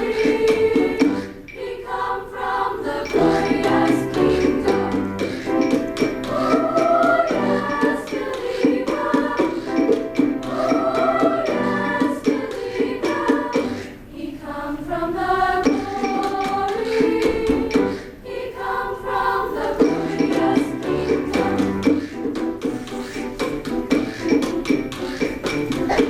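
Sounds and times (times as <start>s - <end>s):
women's choir singing: 0.0s - 22.1s.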